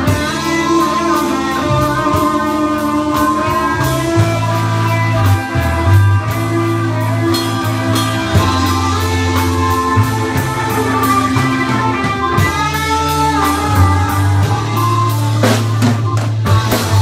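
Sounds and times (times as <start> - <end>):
bass line: 0.0 - 17.0
drum kit: 0.0 - 17.0
electric guitar: 0.0 - 17.0.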